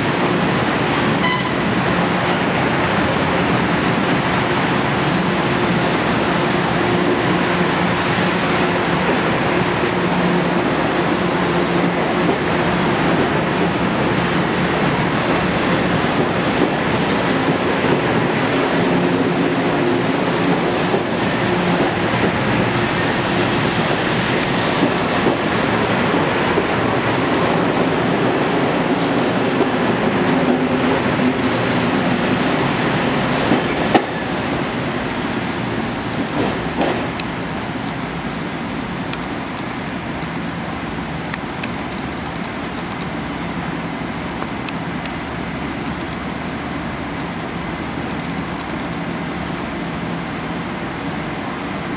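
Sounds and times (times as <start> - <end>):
electric train rushing noise: 0.0 - 51.9.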